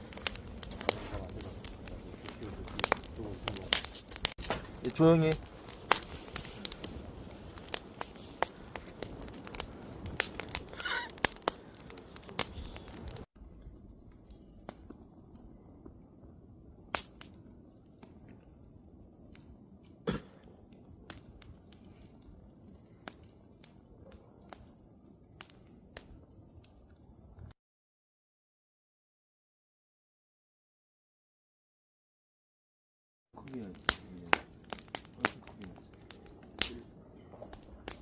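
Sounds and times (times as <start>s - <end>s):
wood fire crackling and popping: 0.0s - 27.6s, 33.4s - 38.0s.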